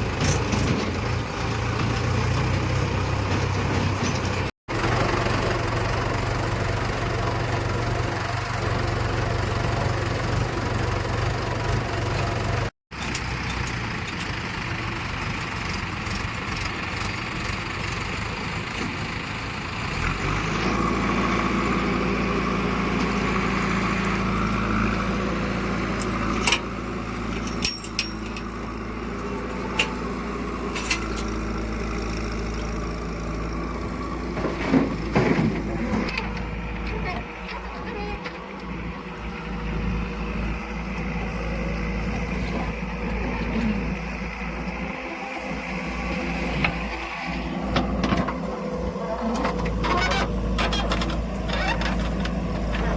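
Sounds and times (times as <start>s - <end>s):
heavy diesel engines running: 0.0s - 52.9s.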